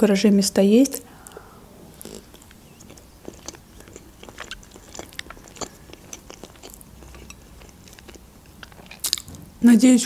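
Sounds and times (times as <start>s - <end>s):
person chewing food: 1.1s - 9.4s.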